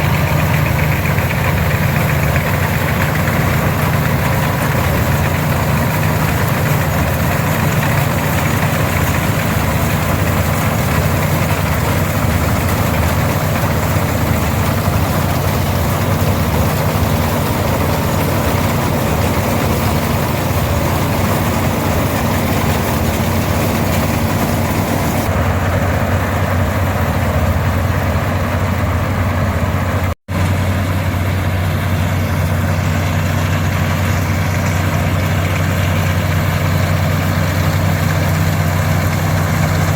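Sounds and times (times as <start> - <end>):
combine threshing: 0.0 - 39.9
tractor diesel engine under load: 0.0 - 39.9.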